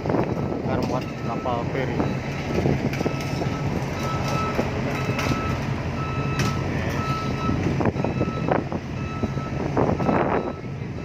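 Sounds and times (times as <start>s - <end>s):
diesel engine running: 0.0s - 11.0s
reversing alarm beeping: 0.3s - 11.0s.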